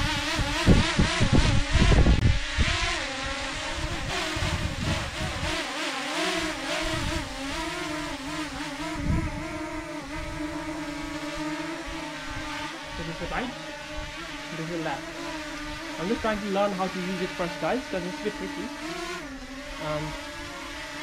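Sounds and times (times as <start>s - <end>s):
wind rumbling on microphone: 0.0s - 5.7s, 6.3s - 21.0s
drone propellers whining: 0.0s - 21.0s.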